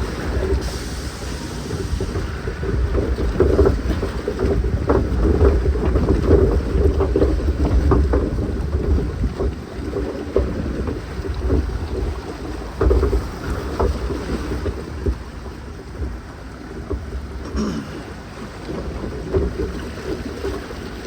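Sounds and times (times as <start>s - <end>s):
boat knocks and splashes: 0.0s - 21.0s
water rumbling: 0.0s - 21.0s
wind on microphone: 0.0s - 21.0s.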